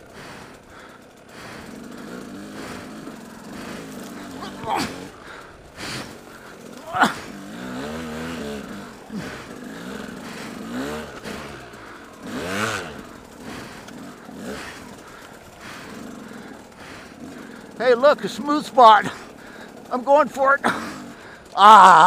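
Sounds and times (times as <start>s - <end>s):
dirt bike engine revving: 0.0s - 22.0s
grass scraping against bike: 0.0s - 22.0s.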